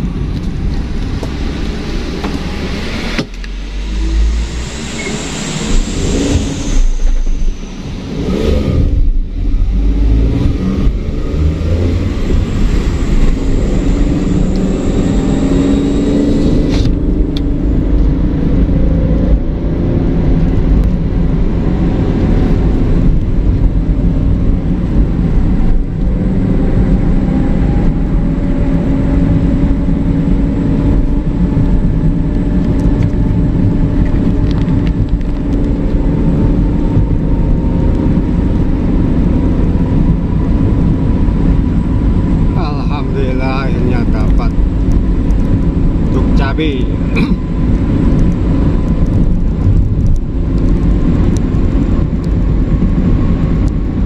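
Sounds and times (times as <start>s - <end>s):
road and tyre noise: 0.0s - 54.0s.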